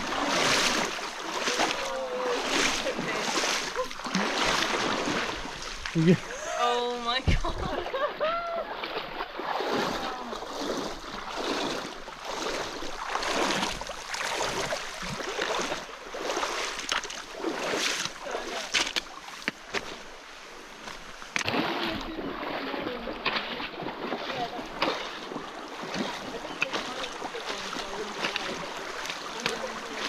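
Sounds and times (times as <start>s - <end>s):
water splashing around wading legs: 0.0s - 30.0s.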